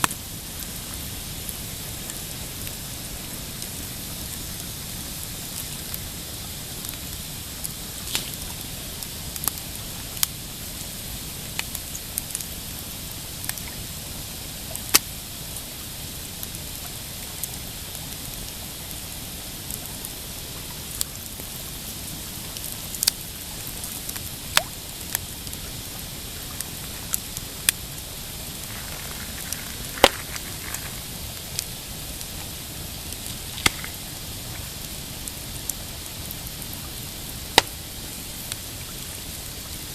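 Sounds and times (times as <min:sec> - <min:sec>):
campfire crackling and popping: 0:00.0 - 0:39.9
hiss of burning wood: 0:00.0 - 0:39.9.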